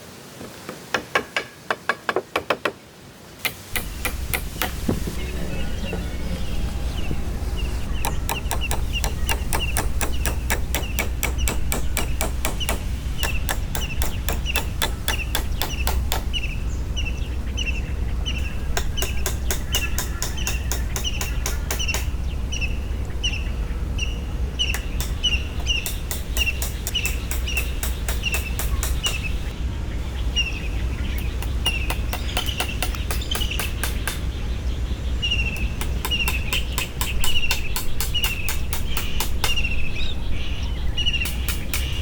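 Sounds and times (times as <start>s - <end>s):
bird chirping: 3.5s - 42.0s.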